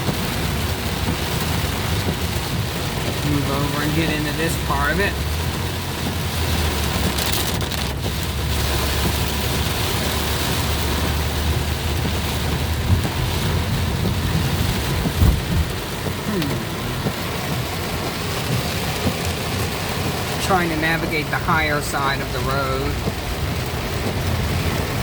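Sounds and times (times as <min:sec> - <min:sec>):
car rumbling on wet road: 0:00.0 - 0:25.0
heavy rain on a car: 0:00.0 - 0:25.0.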